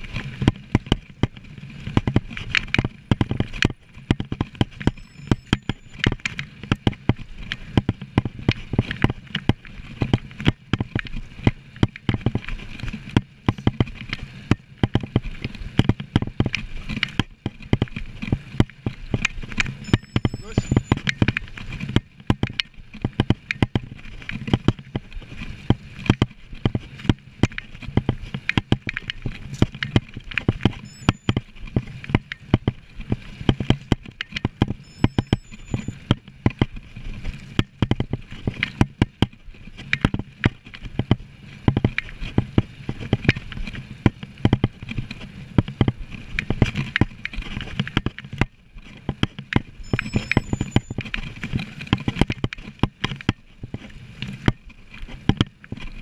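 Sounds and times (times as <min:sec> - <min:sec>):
bike knocks and rattles: 0:00.0 - 0:20.0, 0:20.9 - 0:56.0.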